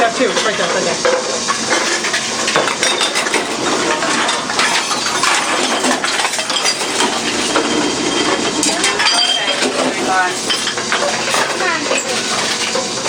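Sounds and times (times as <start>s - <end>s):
glass bottles clinking together: 0.0s - 13.0s.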